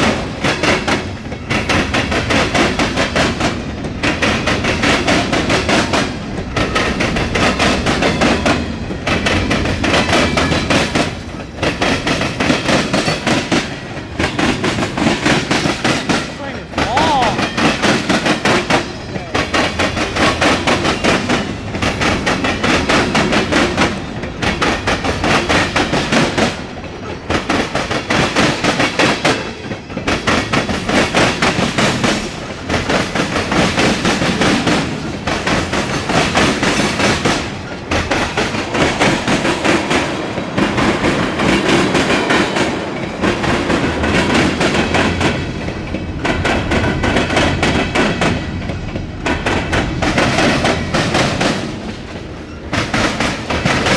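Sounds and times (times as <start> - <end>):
train wheels clattering over rail joints: 0.0 - 53.9.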